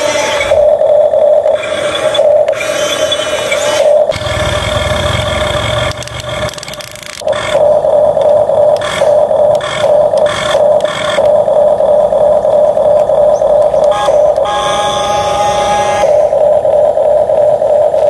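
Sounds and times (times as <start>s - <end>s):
high motor whine: 0.0s - 18.0s.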